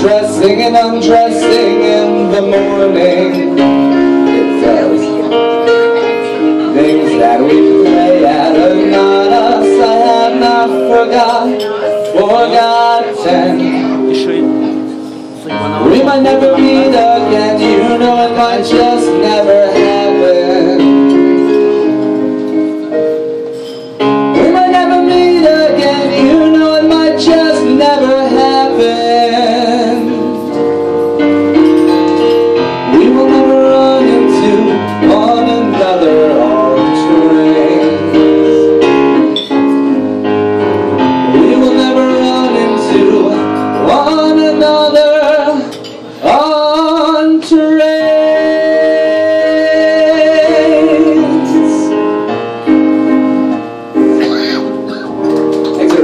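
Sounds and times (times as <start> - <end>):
person singing a slow song: 0.0 - 22.5, 24.0 - 40.2, 40.8 - 55.2
piano accompaniment: 0.0 - 56.0.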